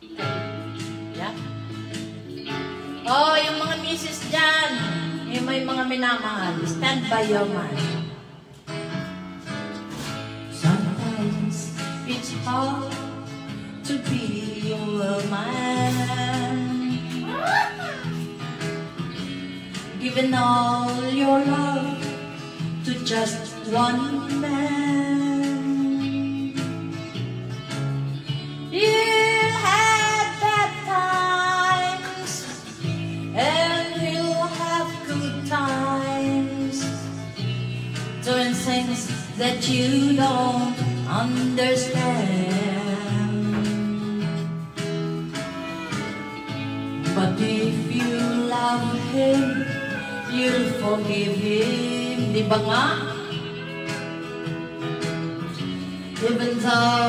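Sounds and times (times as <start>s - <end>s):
backing music: 0.0s - 57.0s
woman singing into microphone: 1.1s - 8.4s, 9.9s - 27.2s, 28.2s - 57.0s.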